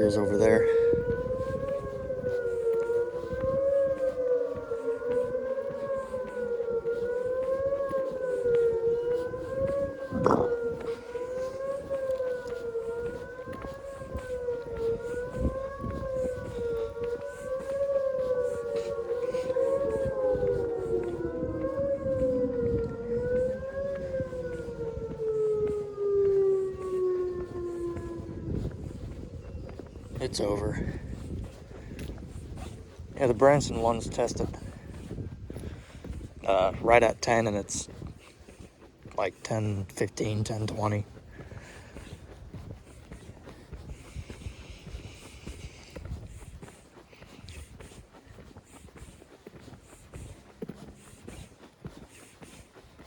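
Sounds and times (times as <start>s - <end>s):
lower falling siren tone: 0.0s - 46.7s
wavering warning siren wail: 0.0s - 53.0s.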